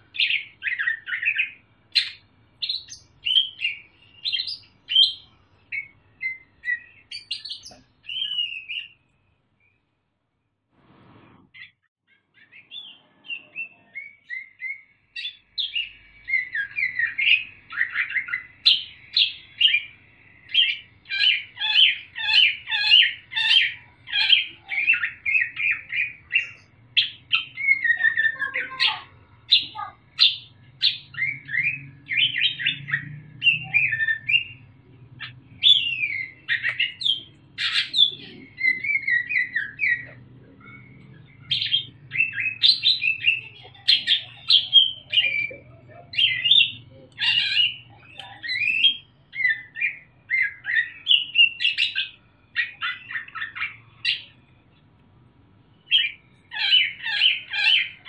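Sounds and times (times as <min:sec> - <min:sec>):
bird singing chattering song: 0:00.0 - 0:09.8, 0:11.6 - 0:54.9, 0:55.6 - 0:58.0.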